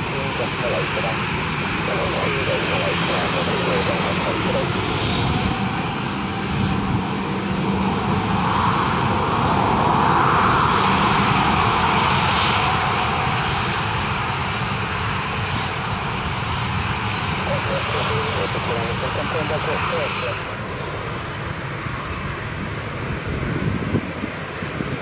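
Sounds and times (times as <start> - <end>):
aircraft engines running: 0.0 - 25.0.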